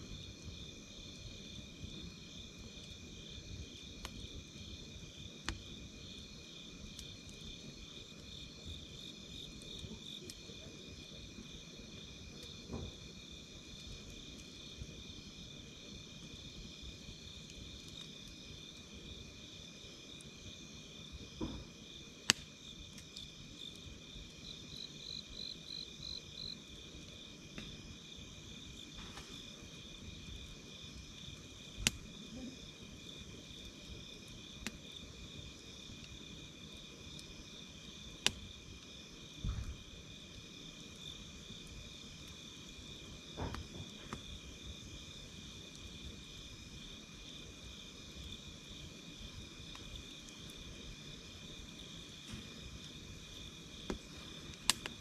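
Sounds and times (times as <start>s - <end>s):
campfire popping: 0.0s - 55.0s
crickets and insects trilling: 0.0s - 55.0s.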